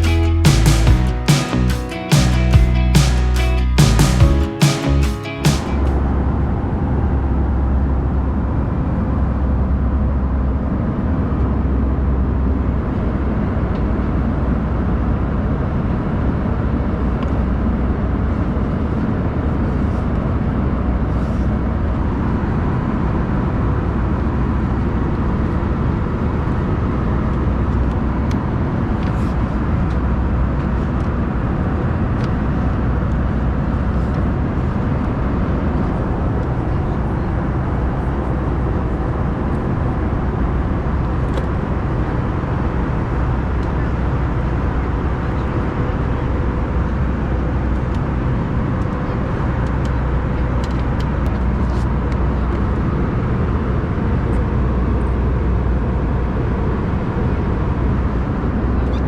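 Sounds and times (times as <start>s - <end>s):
jet engine roar in cabin: 6.0s - 59.0s.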